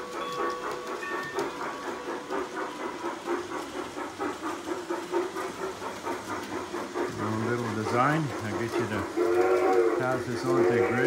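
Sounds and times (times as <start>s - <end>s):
model steam train chuffing: 0.0s - 11.0s
wheels clattering on rails: 0.0s - 11.0s.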